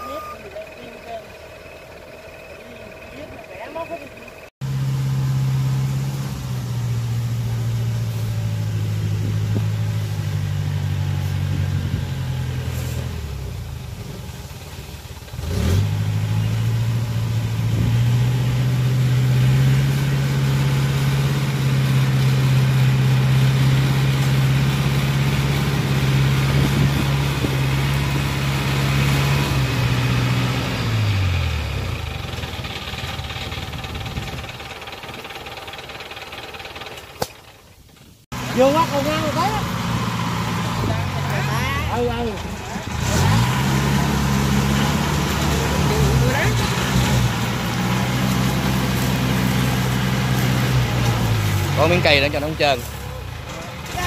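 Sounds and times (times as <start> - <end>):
tracked crawler engine humming: 0.0 - 54.0.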